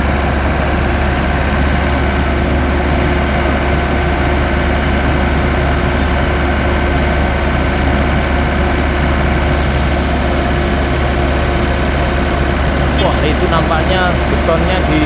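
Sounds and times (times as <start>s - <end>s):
construction machinery engine hum: 0.0s - 15.0s.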